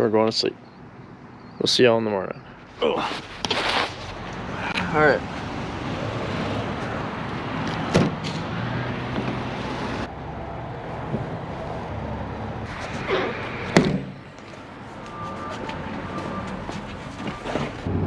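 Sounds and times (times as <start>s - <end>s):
vehicle running hum: 3.2s - 18.0s.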